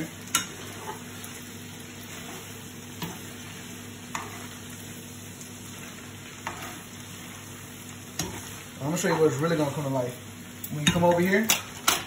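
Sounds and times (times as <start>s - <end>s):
low sizzle: 0.0s - 12.0s.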